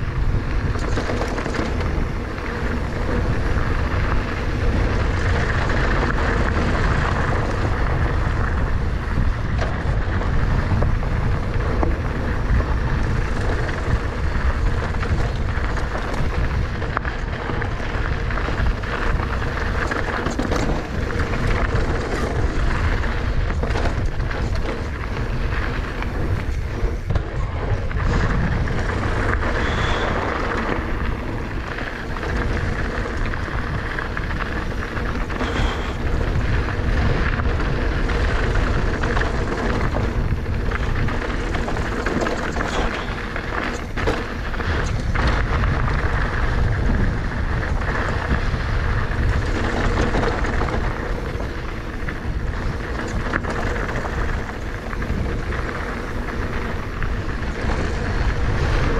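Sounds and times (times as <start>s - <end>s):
bike rattling over bumps: 0.0s - 58.9s
wind and tyres rumbling: 0.0s - 58.9s.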